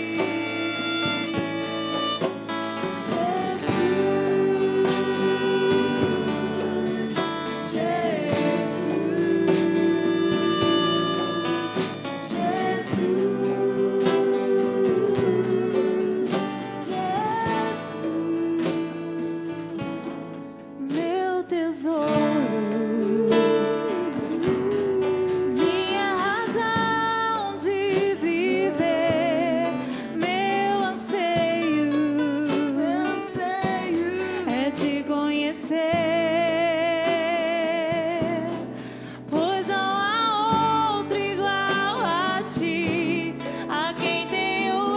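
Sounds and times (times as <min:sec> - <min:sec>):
acoustic guitar: 0:00.0 - 0:44.9
person singing with vibrato: 0:00.0 - 0:44.9.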